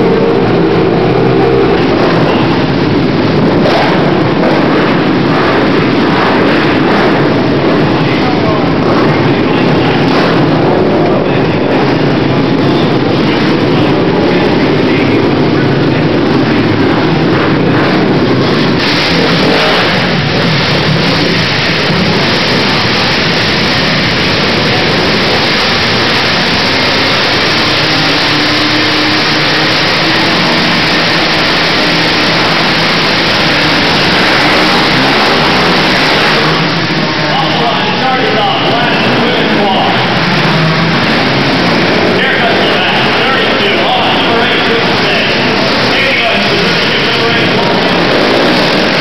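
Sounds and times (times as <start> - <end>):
quad engines revving: 0.0 - 49.0.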